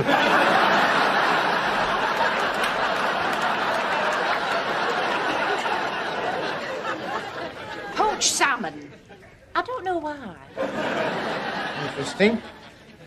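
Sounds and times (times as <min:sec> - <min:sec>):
audience laughing: 0:00.0 - 0:09.4, 0:10.5 - 0:13.0.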